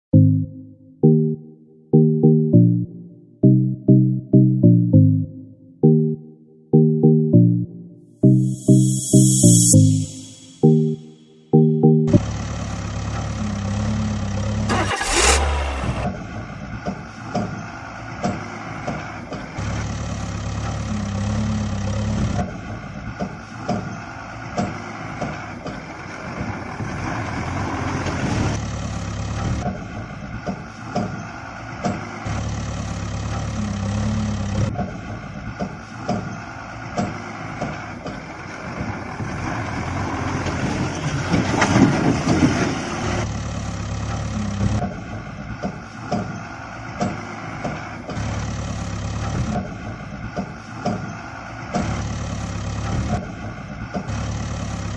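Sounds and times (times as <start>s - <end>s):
heavy vehicle engine running: 7.0s - 54.9s.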